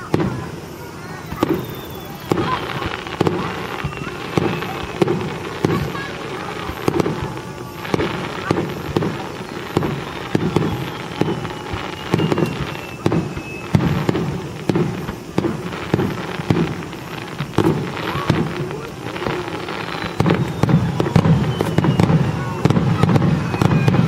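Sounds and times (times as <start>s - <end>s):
fireworks bangs and crackles: 0.0s - 24.0s
faint falling whistle: 1.0s - 15.2s, 17.0s - 24.0s.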